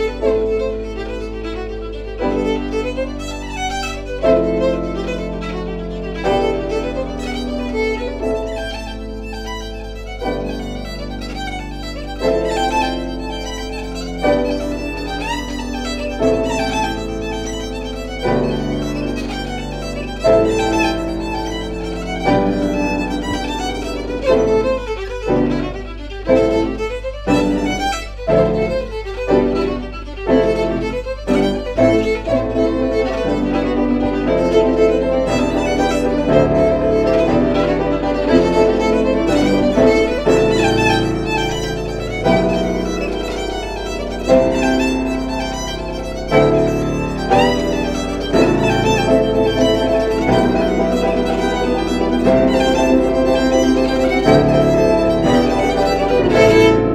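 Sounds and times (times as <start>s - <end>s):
fiddle playing a reel: 0.0s - 56.9s
piano accompaniment: 0.0s - 56.9s.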